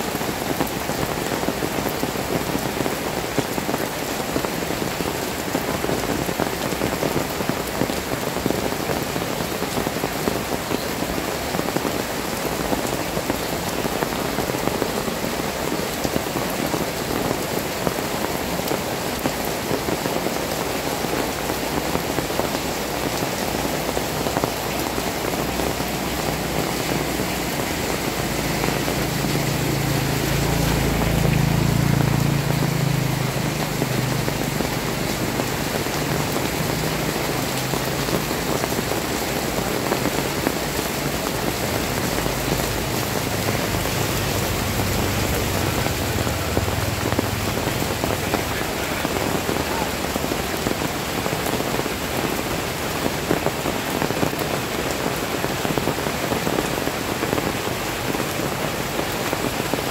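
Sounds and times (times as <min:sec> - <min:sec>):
heavy rain on pavement: 0:00.0 - 0:59.9.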